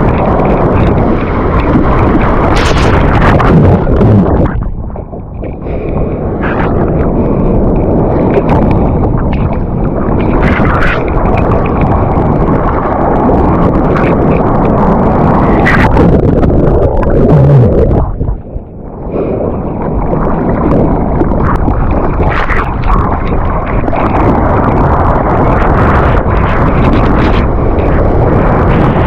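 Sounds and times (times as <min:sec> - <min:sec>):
surf rushing and splashing: 0:00.0 - 0:29.0
wind buffeting microphone: 0:00.0 - 0:29.0.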